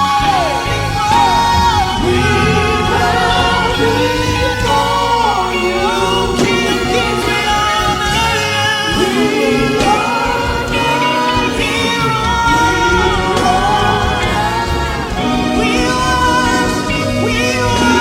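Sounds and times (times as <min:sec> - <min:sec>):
gospel singing: 0:00.0 - 0:18.0
instrumental accompaniment: 0:00.1 - 0:18.0.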